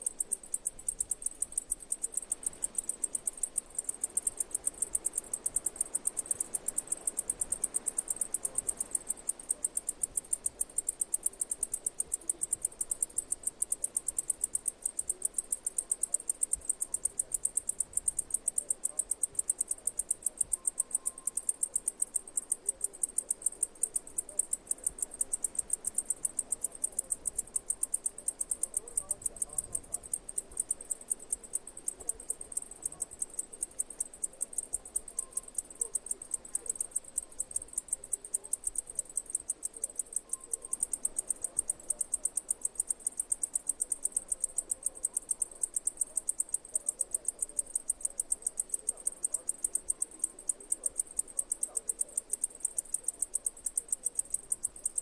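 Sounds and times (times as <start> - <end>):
insect chirping: 0.0 - 55.0.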